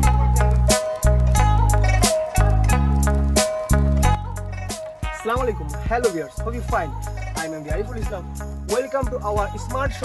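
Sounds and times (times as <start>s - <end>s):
music with bass and drums: 0.0s - 10.0s.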